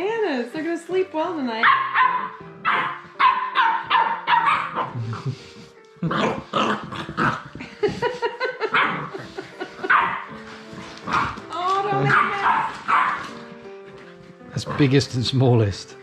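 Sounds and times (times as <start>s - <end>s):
puppies barking: 1.6s - 15.1s.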